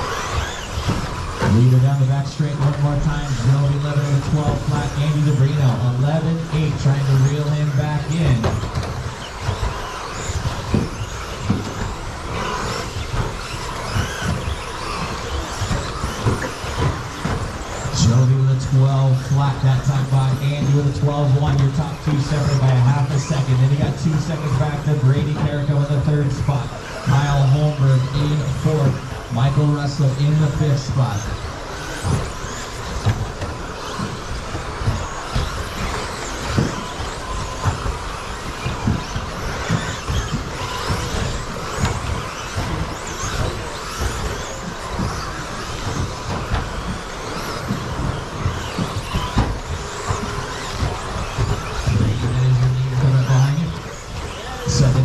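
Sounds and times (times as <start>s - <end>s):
electric motors whining: 0.0s - 55.0s
whir of electric toy trucks: 0.0s - 55.0s.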